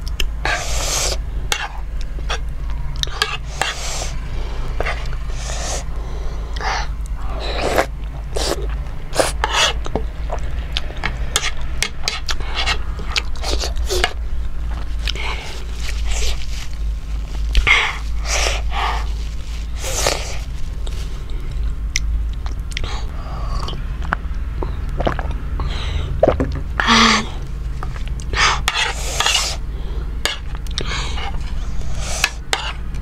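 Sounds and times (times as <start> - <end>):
person chewing food: 0.0 - 33.0
steady low hum: 0.0 - 33.0.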